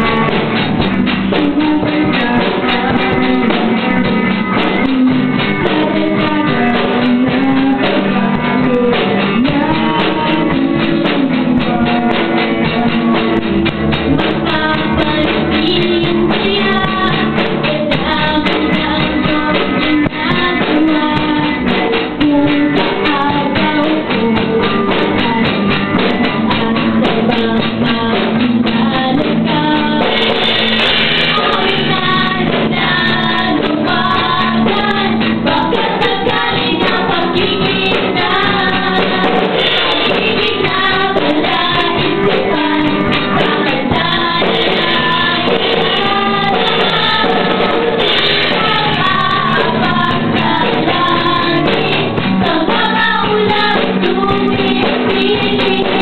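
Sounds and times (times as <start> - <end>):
drum kit: 0.0 - 56.0
electric guitar: 0.0 - 56.0
woman singing into a microphone: 0.0 - 56.0.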